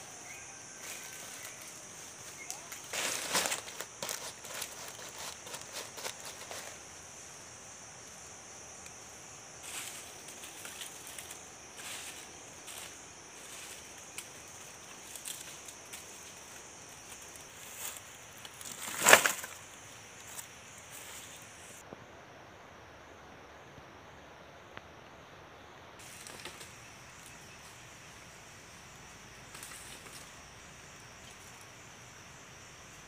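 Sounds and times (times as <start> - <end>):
rustling of dry wood and leaves: 0.0 - 21.8, 26.0 - 33.0.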